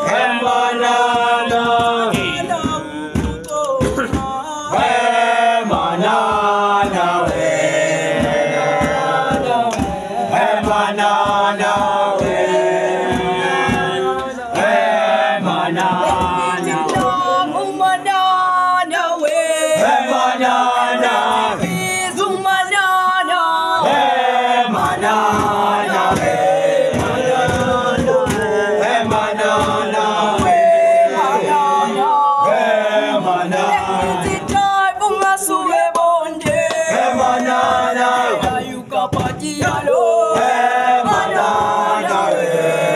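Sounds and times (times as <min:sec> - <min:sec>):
young men singing in chorus: 0:00.0 - 0:42.9.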